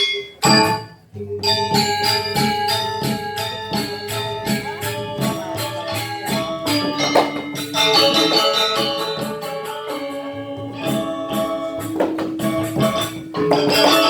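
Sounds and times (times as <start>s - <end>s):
cymbal strokes: 0.0s - 14.0s
metallophones ringing a melody: 0.0s - 14.0s.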